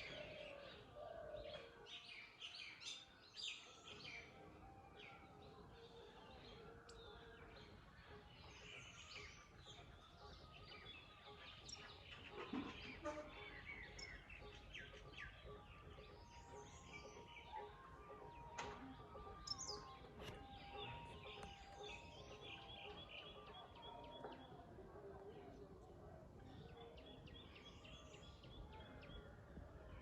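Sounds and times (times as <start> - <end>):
birds chirping: 0.0 - 30.0
low outdoor background noise: 0.0 - 30.0.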